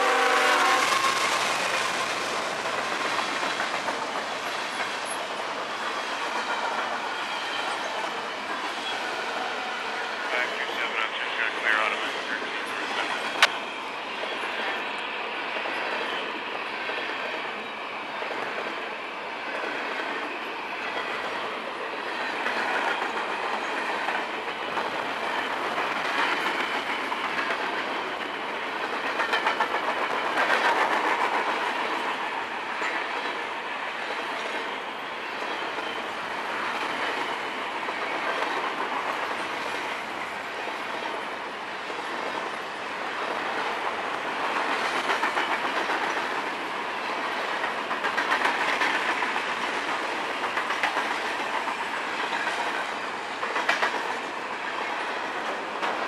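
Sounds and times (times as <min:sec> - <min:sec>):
wheels clacking over rail joints: 0:00.0 - 0:09.1, 0:15.6 - 0:56.0
freight train wheels rumbling: 0:00.0 - 0:56.0.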